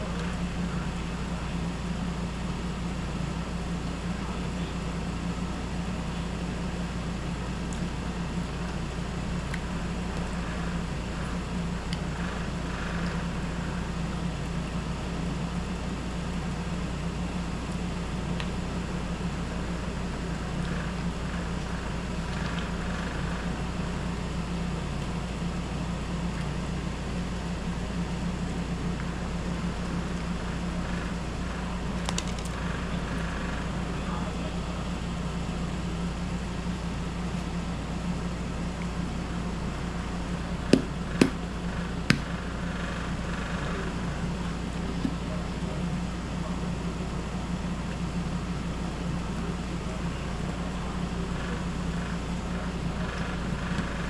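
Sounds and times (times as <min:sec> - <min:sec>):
window air conditioner humming: 0:00.0 - 0:54.0.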